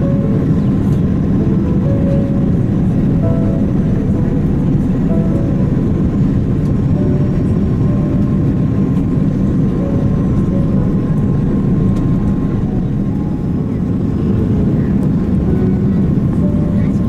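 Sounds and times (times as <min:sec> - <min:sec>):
faint short musical notes: 0:00.0 - 0:17.0
jet engines rumbling: 0:00.0 - 0:17.0.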